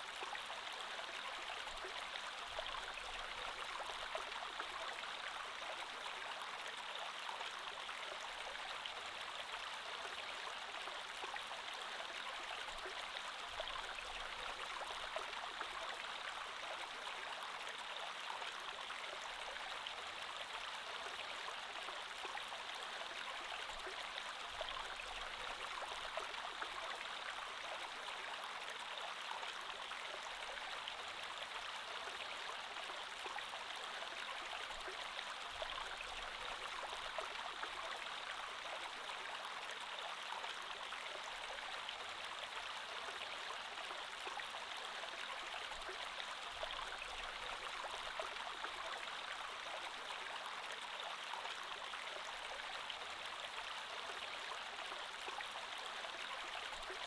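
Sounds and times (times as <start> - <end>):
creek water flowing over rocks: 0.0 - 57.0.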